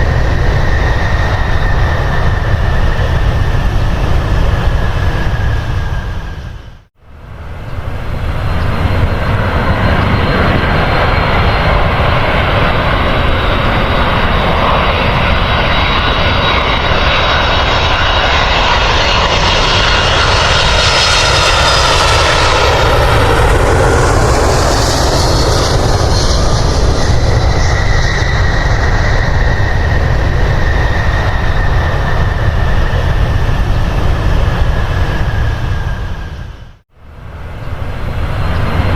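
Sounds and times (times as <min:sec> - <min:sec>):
jet airliner engines: 0:00.0 - 0:38.9.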